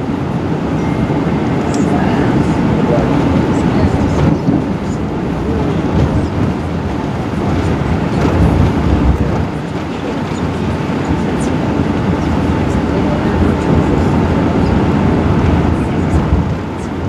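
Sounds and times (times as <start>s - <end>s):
engines rumbling: 0.0s - 17.0s
landing gear rolling: 2.9s - 17.0s.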